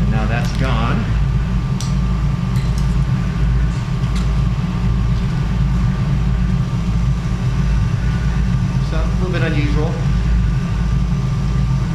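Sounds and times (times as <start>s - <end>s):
low machine hum: 0.0s - 11.9s.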